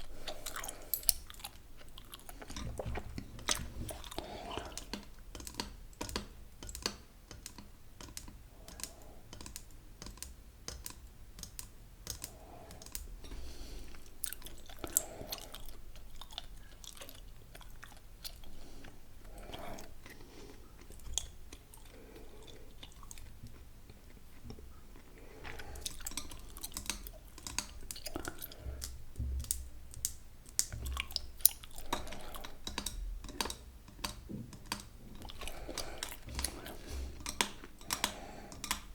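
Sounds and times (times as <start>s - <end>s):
gum chewing: 0.0s - 5.8s, 12.2s - 38.9s.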